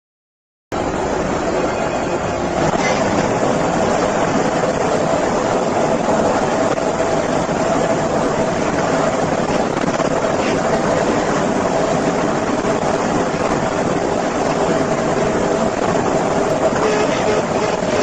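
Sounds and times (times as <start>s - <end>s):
moving car road and engine noise: 0.7s - 18.0s.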